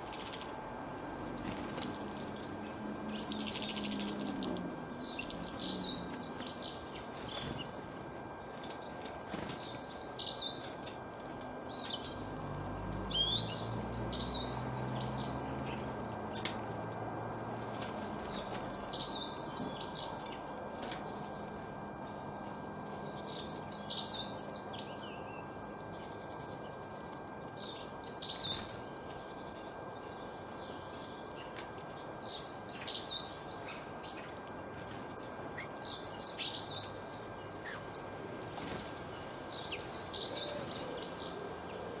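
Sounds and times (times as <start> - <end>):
faint steady hum: 0.0 - 42.0
songbird twittering: 0.1 - 8.3, 9.1 - 16.4, 18.2 - 34.4, 35.5 - 42.0.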